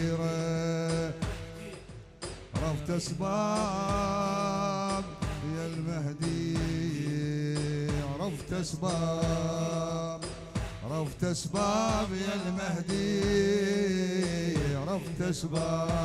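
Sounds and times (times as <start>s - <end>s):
men chanting into microphones: 0.0s - 1.9s, 2.6s - 16.0s.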